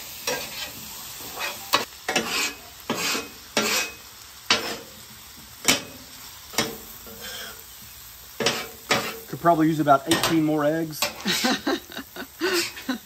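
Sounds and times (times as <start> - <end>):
food sizzling: 0.0 - 13.0
metal spatulas scraping on griddle: 0.1 - 11.6.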